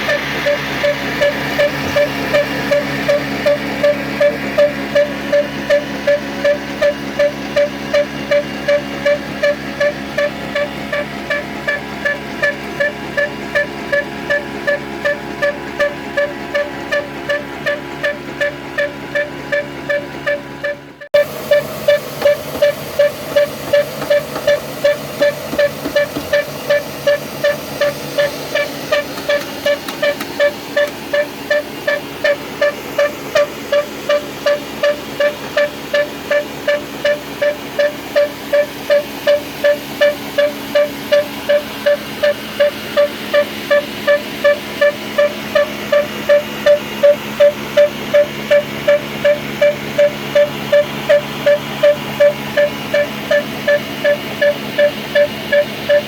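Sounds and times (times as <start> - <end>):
old stationary engine beating: 0.0 - 56.0.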